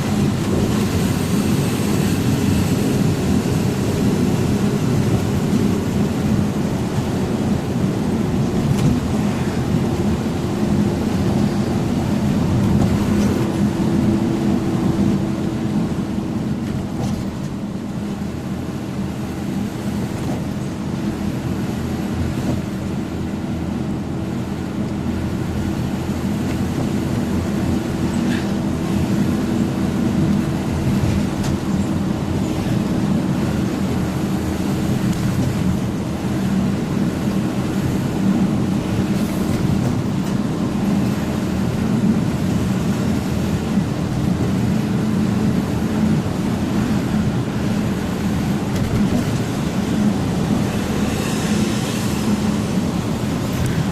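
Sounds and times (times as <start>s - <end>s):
road noise: 0.0s - 53.9s.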